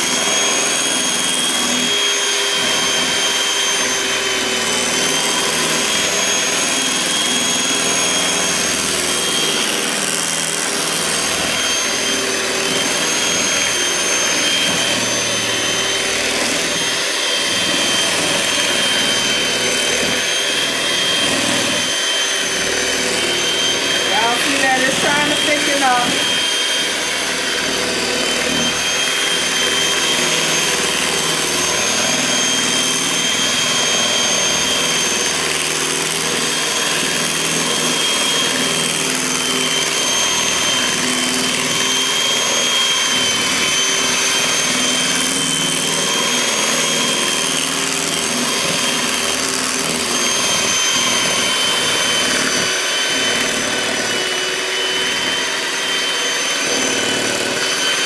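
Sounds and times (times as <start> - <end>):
electric mixer whining: 0.0 - 58.0.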